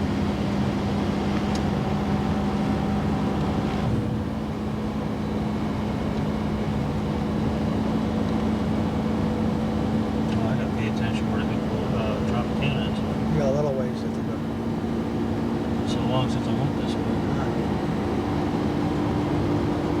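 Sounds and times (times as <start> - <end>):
car road and engine noise: 0.0 - 20.0
constant low hum: 0.1 - 20.0.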